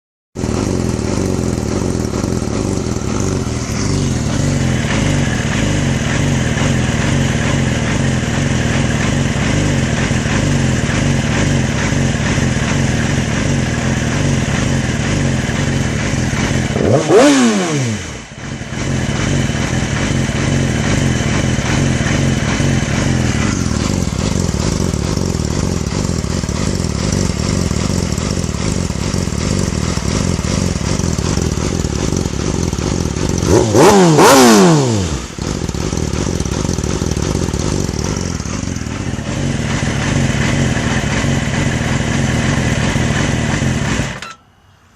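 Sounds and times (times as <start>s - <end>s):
engine revving: 0.4s - 44.3s
motorcycle engine idling roughly: 0.4s - 44.4s.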